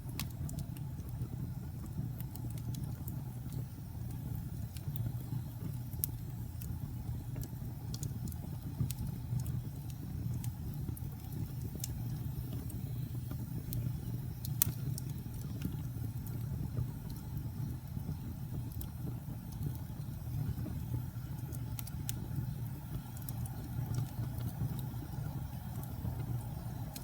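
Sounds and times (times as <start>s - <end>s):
fire crackles and pops: 0.0s - 27.0s
wood fire rumbling: 0.0s - 27.0s.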